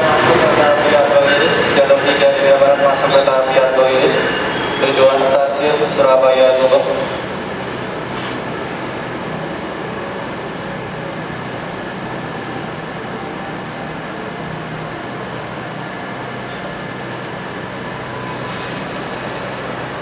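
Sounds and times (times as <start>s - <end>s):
standing train humming and hissing: 0.0s - 20.0s.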